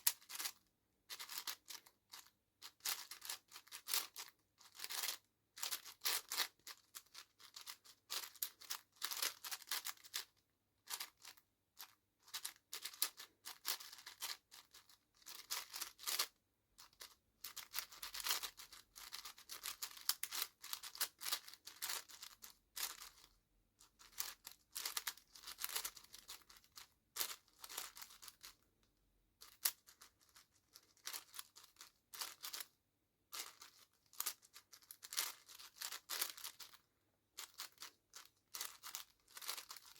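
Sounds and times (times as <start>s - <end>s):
puzzle cube clicking turns: 0.0s - 28.6s, 29.4s - 32.7s, 33.3s - 36.8s, 37.4s - 39.9s.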